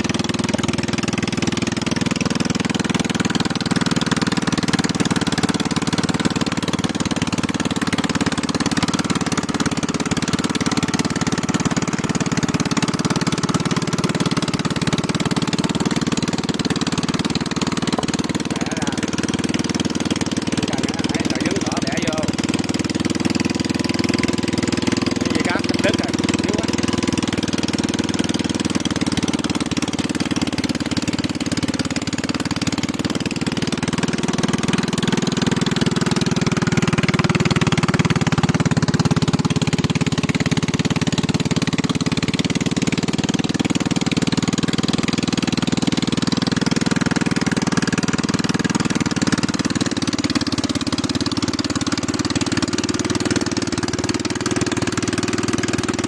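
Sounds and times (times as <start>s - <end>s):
machine engine running: 0.0s - 56.0s.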